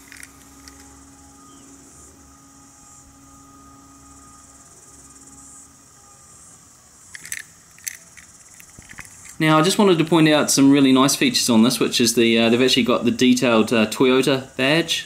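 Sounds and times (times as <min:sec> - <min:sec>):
low hum: 0:00.0 - 0:13.2
high-pitched hiss: 0:00.0 - 0:15.0.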